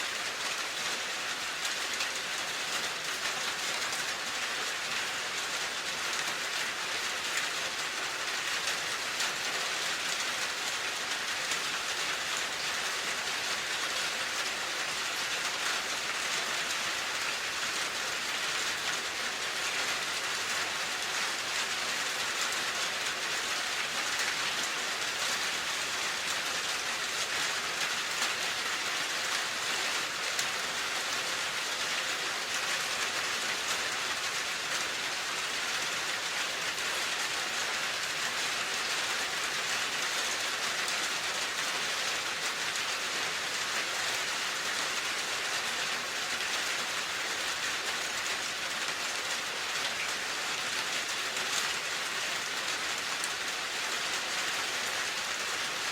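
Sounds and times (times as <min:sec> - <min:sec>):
rain on a hard surface: 0:00.0 - 0:55.9.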